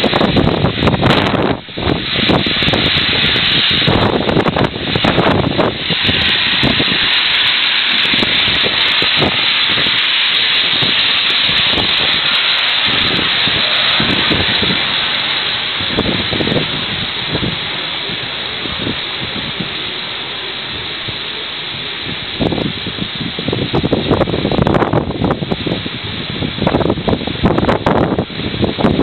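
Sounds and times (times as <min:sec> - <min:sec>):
wind buffeting microphone: 0:00.0 - 0:29.0
wind rushing: 0:00.0 - 0:29.0.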